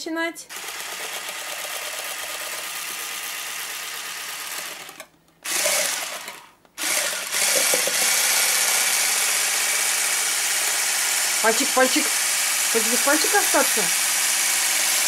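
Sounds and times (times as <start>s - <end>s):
hand blender whisking: 0.5s - 15.0s.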